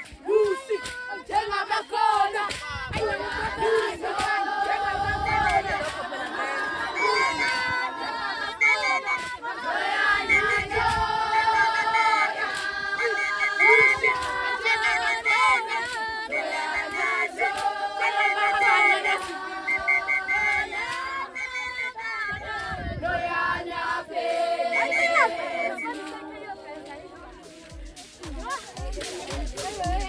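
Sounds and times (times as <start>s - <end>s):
crowd voices: 0.0s - 30.0s
women singing together: 0.0s - 30.0s.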